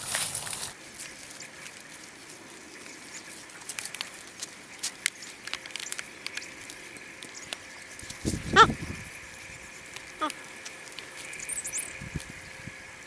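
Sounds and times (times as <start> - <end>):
dry grass and twigs crackling: 0.0 - 13.0.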